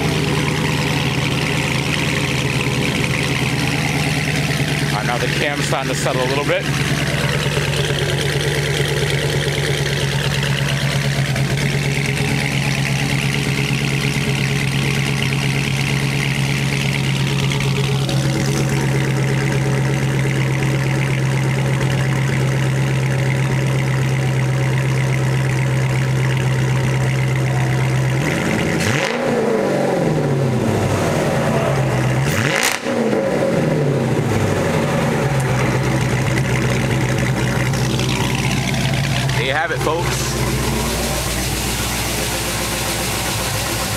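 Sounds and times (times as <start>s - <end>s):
engine revving: 0.0s - 22.0s, 27.2s - 43.9s
car engine idling: 0.0s - 43.9s.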